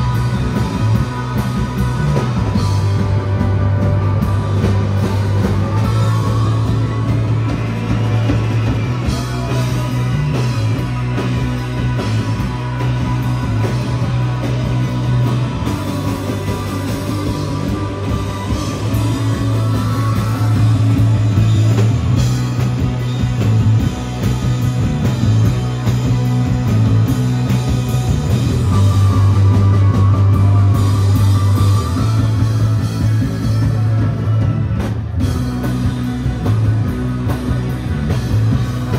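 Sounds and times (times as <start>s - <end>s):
drum kit: 0.0s - 38.9s
electric guitars: 0.0s - 38.9s
heavy bass line: 0.0s - 38.9s.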